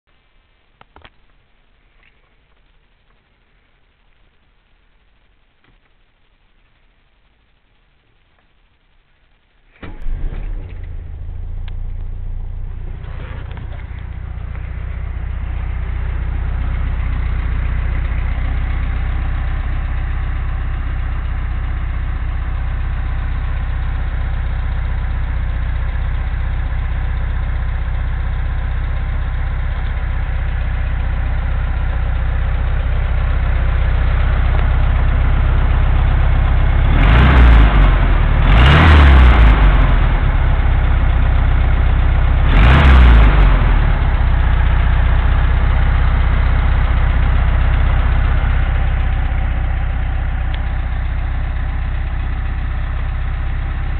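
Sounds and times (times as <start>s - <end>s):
car engine idling and revving: 9.8s - 53.9s.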